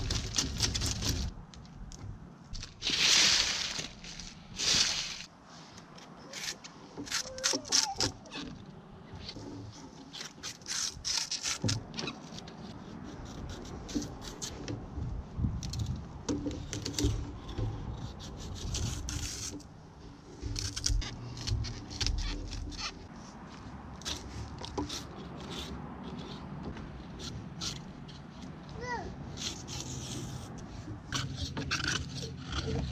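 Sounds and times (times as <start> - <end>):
knife scraping palm stem: 2.6 - 8.6, 9.2 - 14.6, 15.5 - 32.9.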